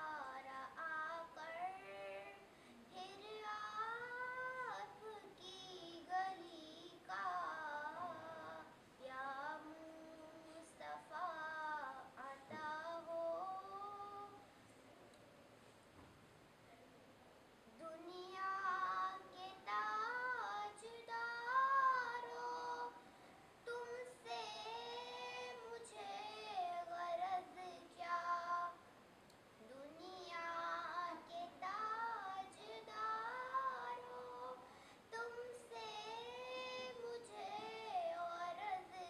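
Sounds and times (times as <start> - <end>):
girl singing unaccompanied: 0.0 - 14.5, 17.6 - 39.0.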